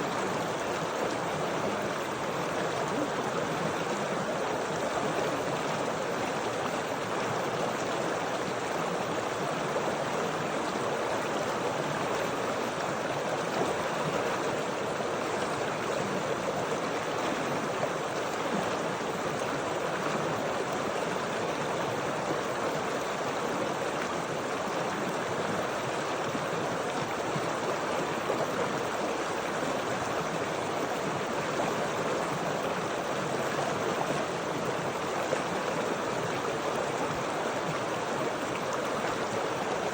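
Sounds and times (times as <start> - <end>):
stream water rushing and gurgling: 0.0 - 39.9.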